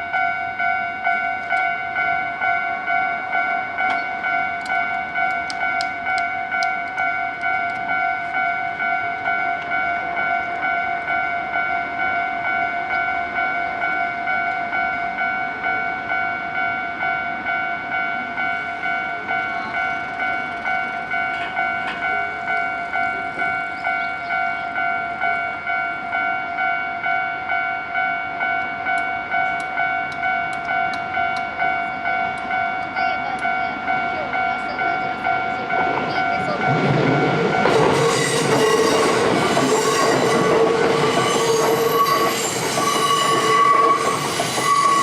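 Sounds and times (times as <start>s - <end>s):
level-crossing warning bell: 0.0s - 45.0s
train running past: 0.0s - 45.0s.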